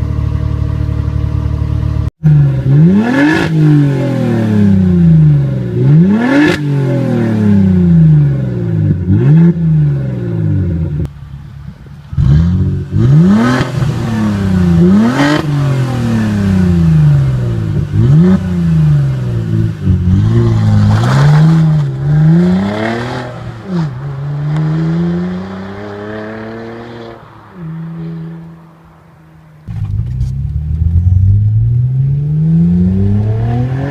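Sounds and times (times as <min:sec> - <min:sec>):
loud car engine revving: 0:02.2 - 0:11.1, 0:12.1 - 0:28.6, 0:29.6 - 0:33.9.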